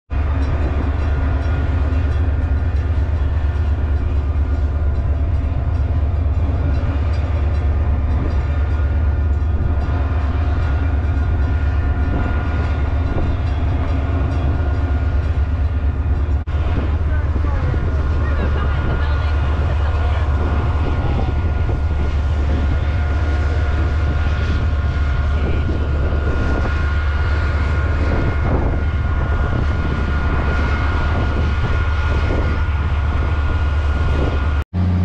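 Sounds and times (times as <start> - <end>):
diesel locomotive idling: 0.1 - 35.0.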